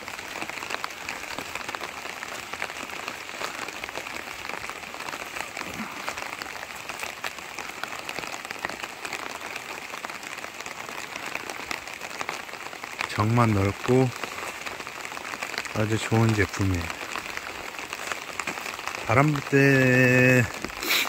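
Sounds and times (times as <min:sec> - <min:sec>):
rain pattering on tent fabric: 0:00.0 - 0:21.0.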